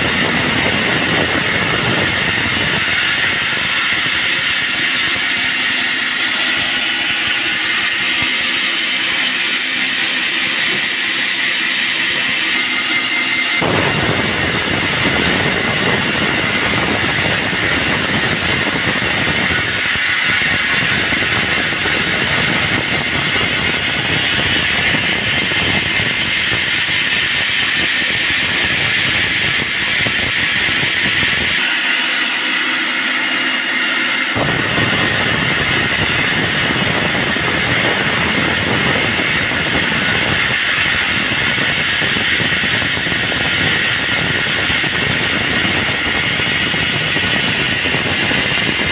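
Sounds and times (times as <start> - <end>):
band sawmill running: 0.0 - 48.9
low machine rumble: 0.0 - 48.9.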